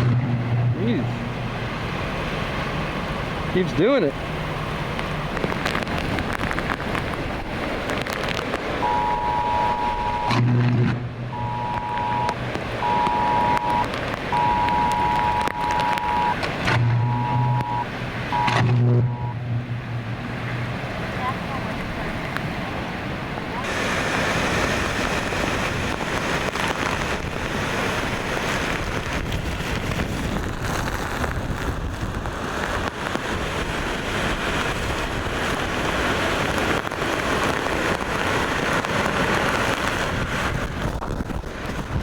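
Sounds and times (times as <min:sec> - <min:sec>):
driving rain: 0:00.0 - 0:42.0
hurricane wind: 0:00.0 - 0:42.0.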